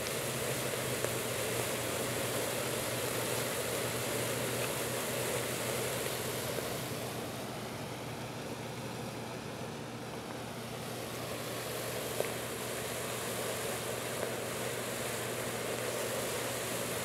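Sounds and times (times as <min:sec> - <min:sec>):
low electrical hum: 0:00.0 - 0:17.0
water boiling and bubbling: 0:00.0 - 0:17.0.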